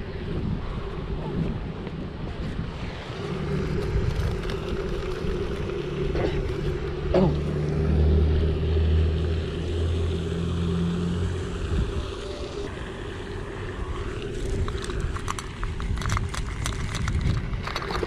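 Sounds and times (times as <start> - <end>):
motor engine droning: 0.0 - 17.4.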